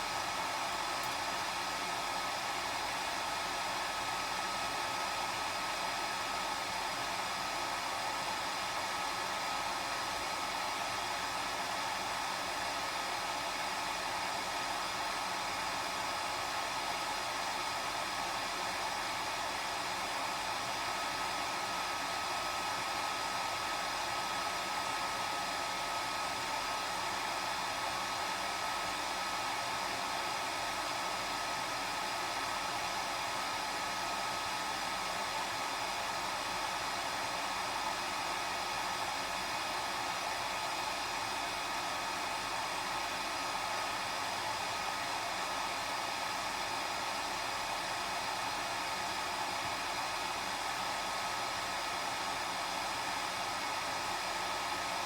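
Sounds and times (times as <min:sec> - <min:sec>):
hair dryer blowing with faint whine: 0:00.0 - 0:55.0.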